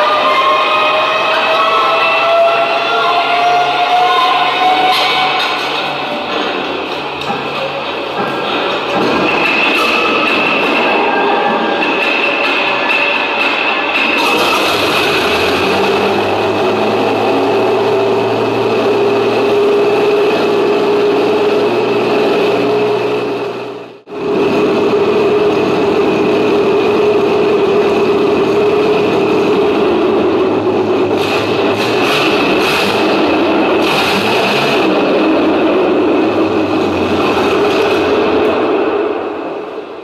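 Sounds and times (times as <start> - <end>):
tank engine running: 0.0 - 40.0.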